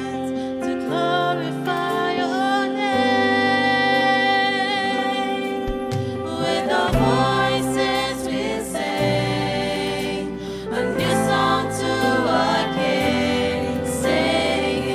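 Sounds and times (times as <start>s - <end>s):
youth choir singing gospel: 0.0s - 14.9s
instrumental accompaniment with bass: 0.8s - 14.9s.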